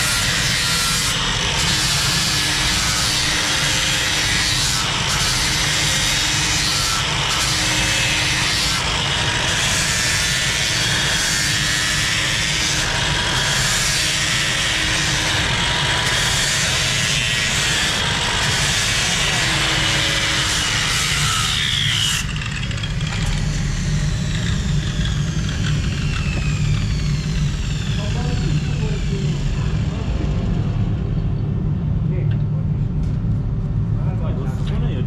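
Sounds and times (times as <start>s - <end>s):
loud mechanical roar: 0.0s - 35.0s.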